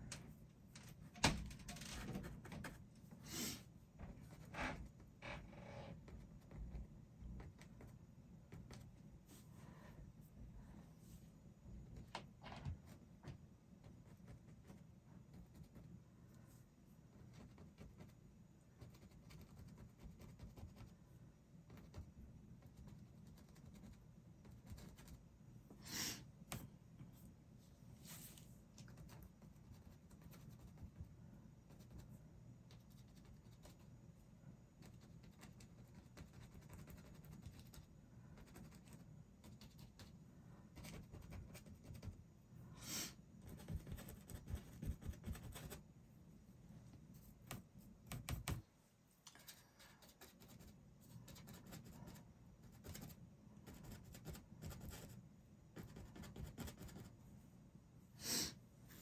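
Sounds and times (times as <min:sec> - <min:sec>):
low room hum: 0:00.0 - 0:59.0.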